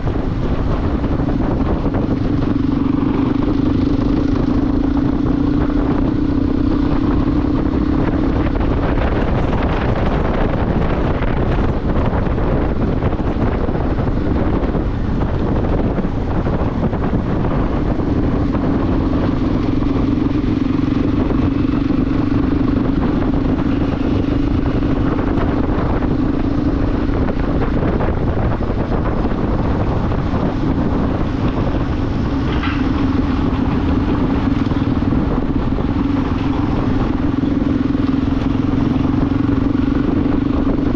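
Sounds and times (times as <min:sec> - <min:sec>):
motorcycle engine: 0:00.0 - 0:40.9
wind noise on microphone: 0:00.0 - 0:40.9.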